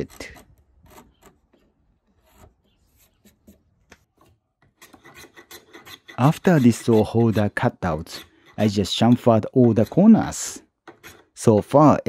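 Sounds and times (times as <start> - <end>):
chisel scraping wood: 0.0 - 11.6.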